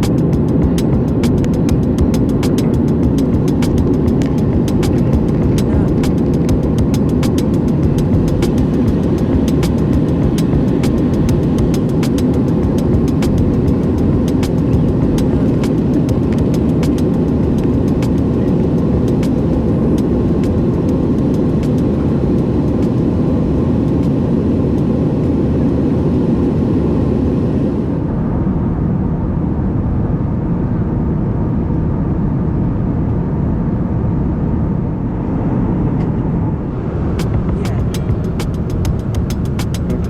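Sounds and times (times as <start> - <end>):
aircraft cabin engine rumble: 0.0 - 40.0.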